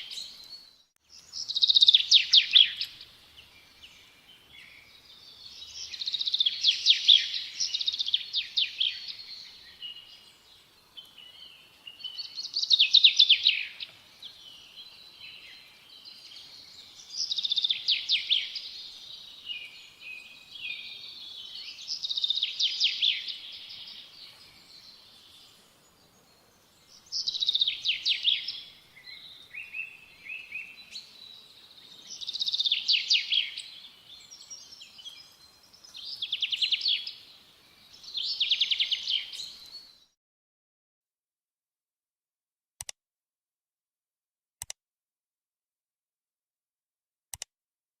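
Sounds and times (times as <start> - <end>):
soft bird chirps: 0.0 - 40.2.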